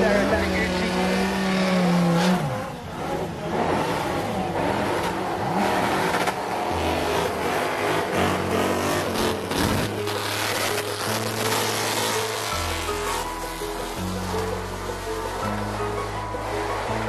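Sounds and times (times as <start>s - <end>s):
car engines revving: 0.0s - 17.0s
tyre and road noise: 0.0s - 17.0s.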